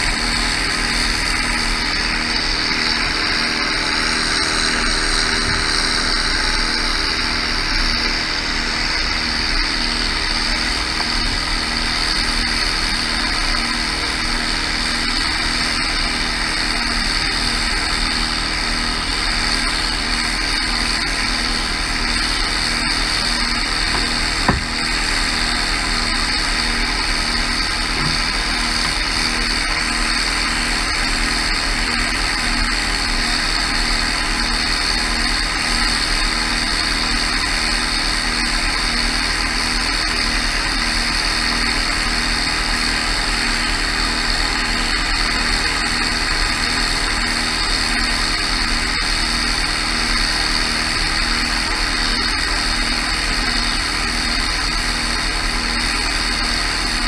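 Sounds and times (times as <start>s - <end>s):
sprayer fan rushing hiss: 0.0s - 57.0s
tractor engine drone: 0.0s - 57.0s.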